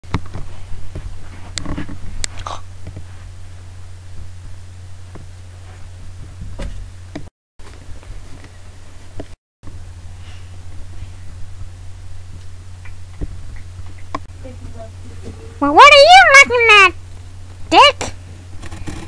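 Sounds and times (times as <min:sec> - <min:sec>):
low hum: 0:00.1 - 0:15.8.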